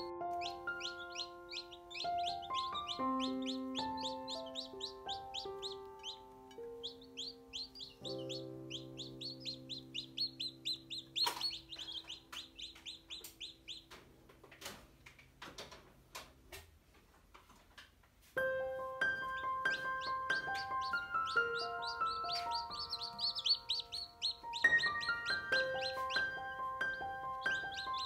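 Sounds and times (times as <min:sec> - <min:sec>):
background music: 0:00.0 - 0:14.0, 0:18.4 - 0:28.0
chicks peeping: 0:00.0 - 0:14.2, 0:19.0 - 0:28.0.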